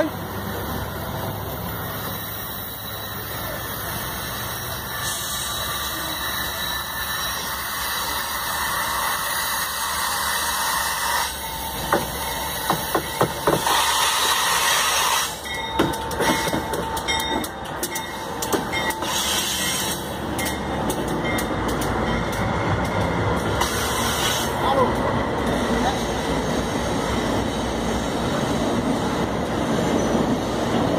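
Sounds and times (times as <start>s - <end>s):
freight train wheels on rails: 0.0s - 30.9s.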